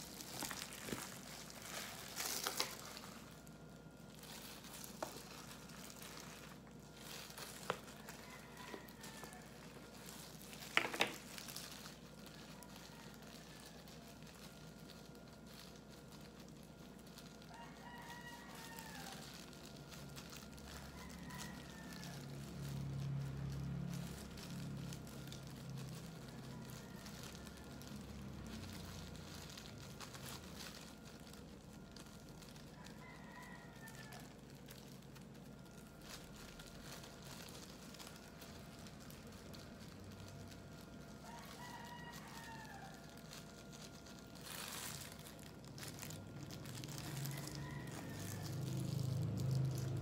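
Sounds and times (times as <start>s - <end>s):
rooster crowing faintly: 0.0s - 50.0s.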